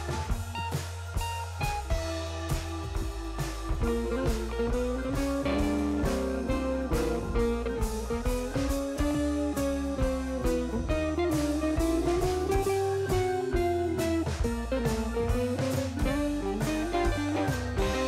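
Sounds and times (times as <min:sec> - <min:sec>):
blues guitar tune: 0:00.0 - 0:18.0
drums keeping a beat: 0:00.0 - 0:18.0.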